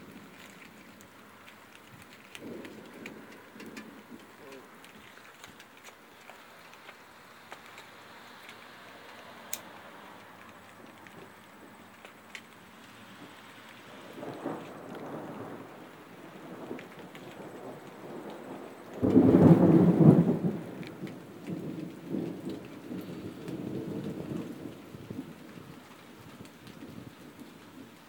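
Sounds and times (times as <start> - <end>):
thunder clap rumbling: 0.0 - 6.1, 7.7 - 28.0
heavy rain falling: 0.0 - 28.0.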